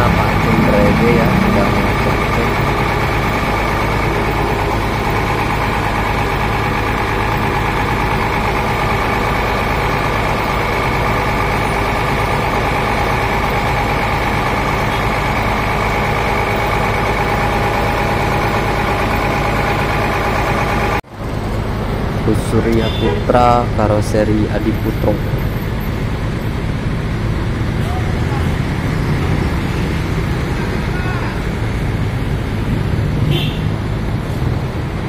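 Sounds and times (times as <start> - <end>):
bus diesel engine idling: 0.0 - 35.0.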